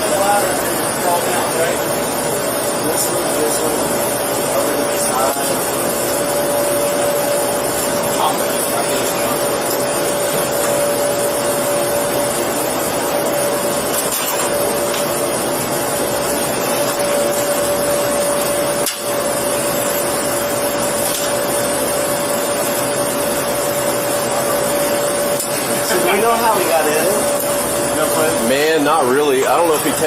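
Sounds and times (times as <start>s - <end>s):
loud whooshing machine hum: 0.0s - 30.0s.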